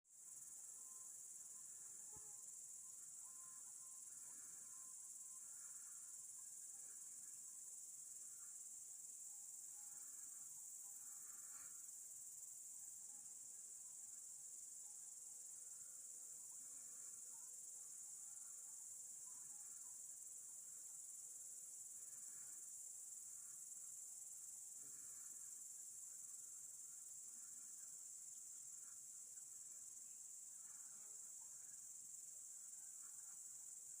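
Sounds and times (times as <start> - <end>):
crickets chirring: 0.3 - 34.0.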